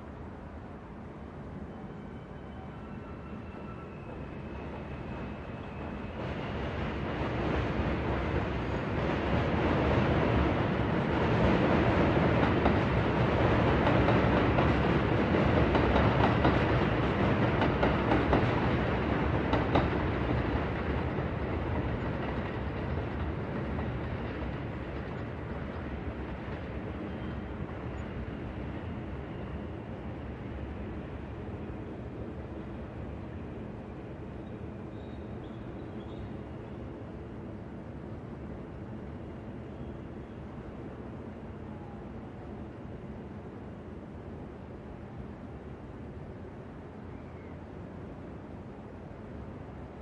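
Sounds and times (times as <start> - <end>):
train rumbling past: 0.0 - 50.0.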